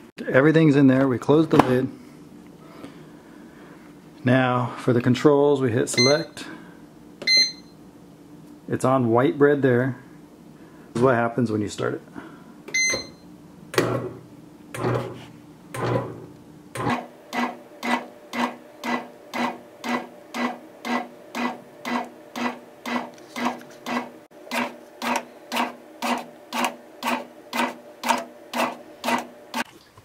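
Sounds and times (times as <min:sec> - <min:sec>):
bread machine motor pulsing hum: 0:01.2 - 0:30.0.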